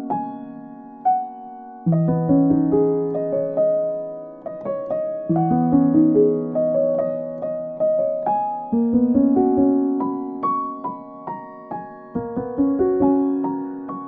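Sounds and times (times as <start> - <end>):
gentle piano piece: 0.0 - 14.0.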